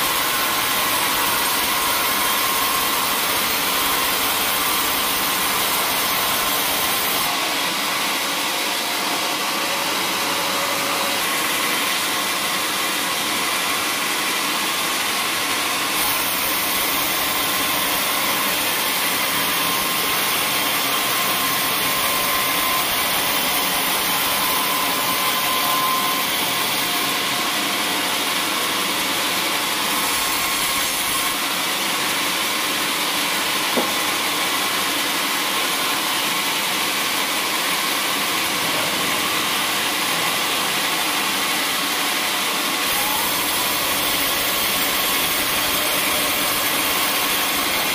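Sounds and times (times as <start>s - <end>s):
bandsaw mill cutting wood: 0.0s - 47.9s.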